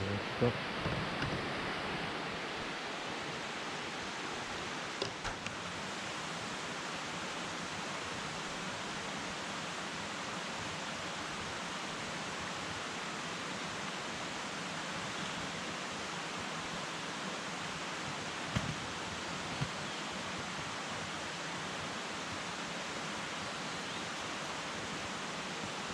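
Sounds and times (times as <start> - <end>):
stream flowing over rocks: 0.2 - 25.9.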